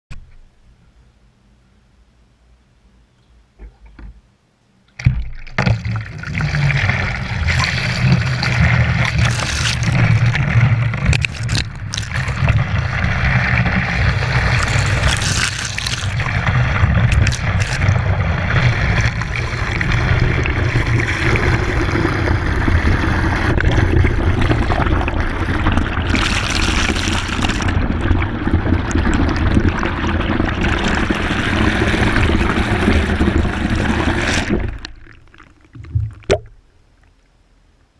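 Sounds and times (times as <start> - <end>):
water pouring into plastic bucket: 5.3 - 36.6.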